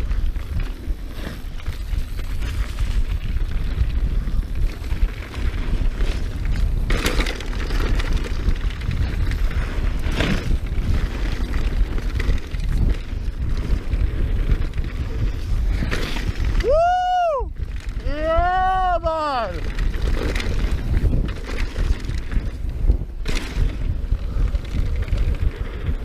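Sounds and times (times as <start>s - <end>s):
bike rattling: 0.0s - 26.0s
tyres on loose dirt: 0.0s - 26.0s
wind buffeting microphone: 0.0s - 26.0s.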